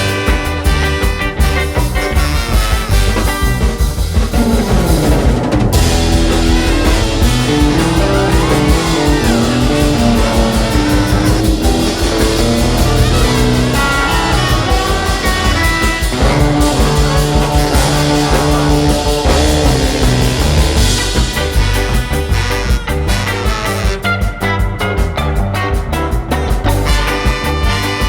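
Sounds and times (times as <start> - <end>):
electric guitar: 0.0 - 28.0
live ska band playing: 0.0 - 28.0.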